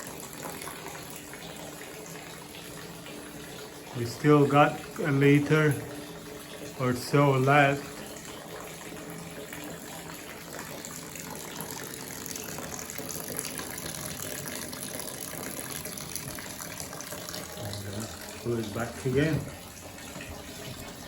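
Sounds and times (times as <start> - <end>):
water pouring into bowl: 0.0 - 21.0.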